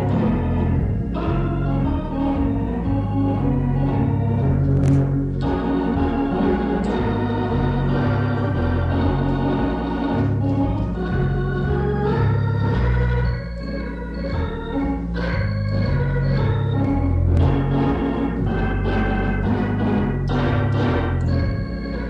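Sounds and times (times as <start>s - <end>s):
bass line: 0.0s - 22.0s
organ playing sustained chords: 0.0s - 22.0s.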